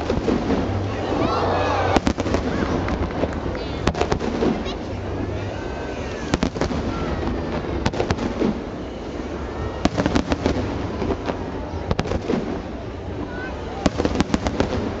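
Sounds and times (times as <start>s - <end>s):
crowd murmur: 0.0s - 15.0s
fireworks bursting with sharp bangs: 0.0s - 15.0s.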